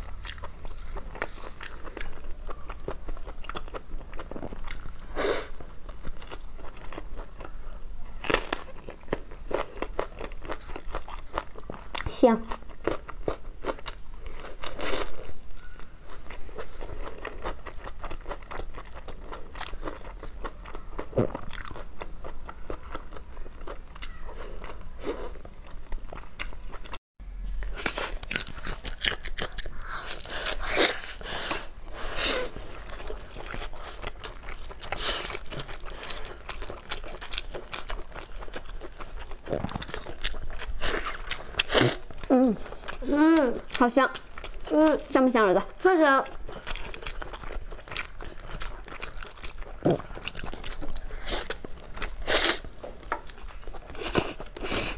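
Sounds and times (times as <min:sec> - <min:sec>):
wet chewing and mouth clicks: 0:00.0 - 0:27.0, 0:27.6 - 0:54.9.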